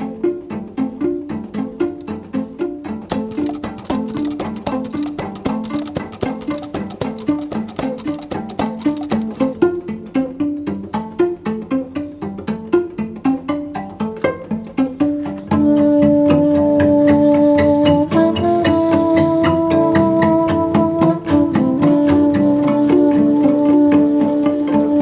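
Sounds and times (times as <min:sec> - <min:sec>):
bowed string notes: 0:00.0 - 0:25.0
plucked string notes: 0:00.0 - 0:25.0.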